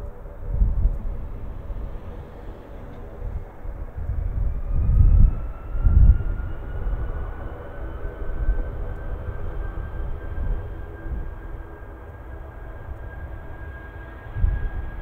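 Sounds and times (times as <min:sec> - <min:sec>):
jet engines rumbling: 0:00.0 - 0:15.0
thin rising whine: 0:00.0 - 0:15.0.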